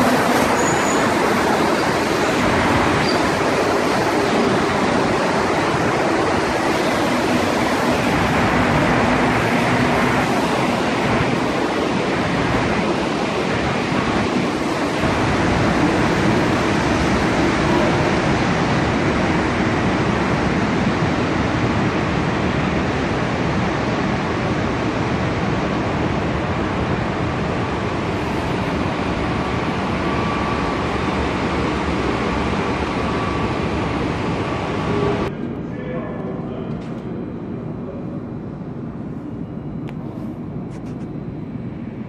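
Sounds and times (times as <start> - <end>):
metro train rolling past: 0.0 - 42.0.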